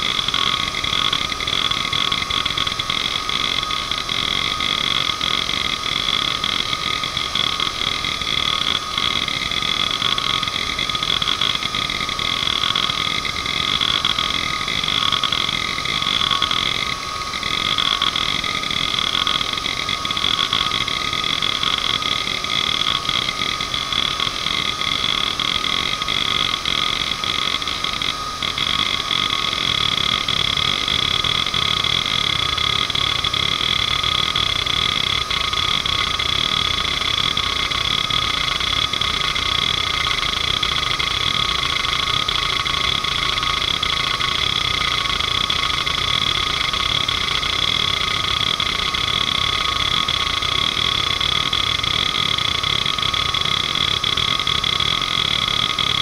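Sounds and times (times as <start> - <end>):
hard drive whine: 0.0 - 56.0.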